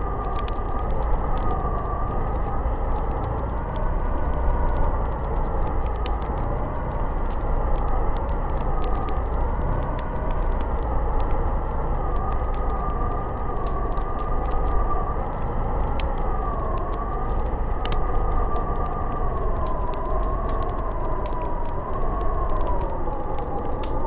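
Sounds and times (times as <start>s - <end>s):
light ticks: 0.0s - 24.0s
snowstorm wind howling: 0.0s - 24.0s.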